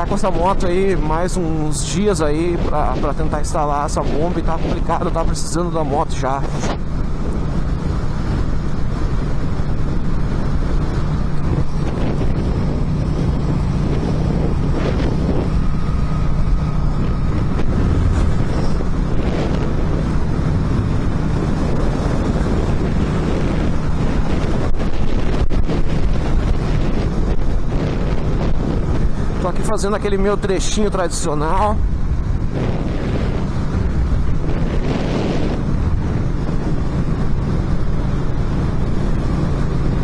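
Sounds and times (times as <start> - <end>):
motorcycle engine cruising: 0.0 - 40.0
wind buffeting microphone: 0.0 - 40.0.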